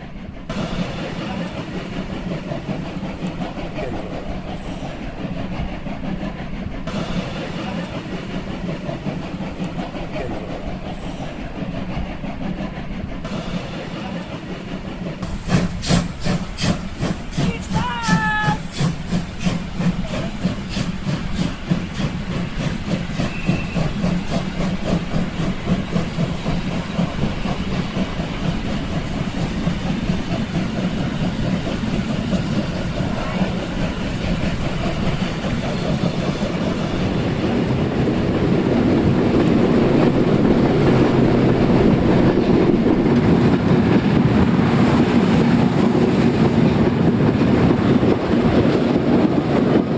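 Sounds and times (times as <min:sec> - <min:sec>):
steam locomotive beats: 0:00.0 - 0:49.9
steam hiss: 0:00.4 - 0:46.5.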